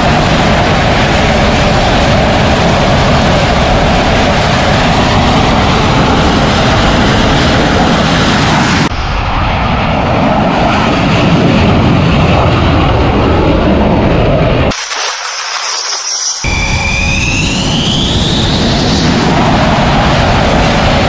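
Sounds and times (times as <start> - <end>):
jet engine noise: 0.0 - 21.0.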